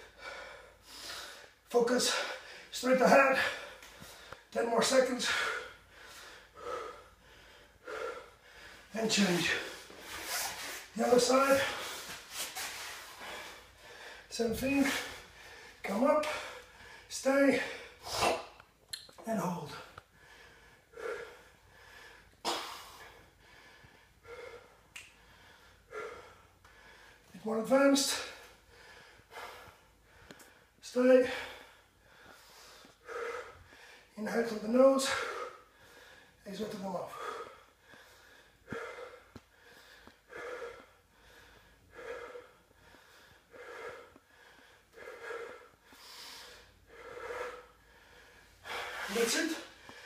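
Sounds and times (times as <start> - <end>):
man breathing hard: 0.0 - 18.7, 19.7 - 27.4, 28.0 - 50.0.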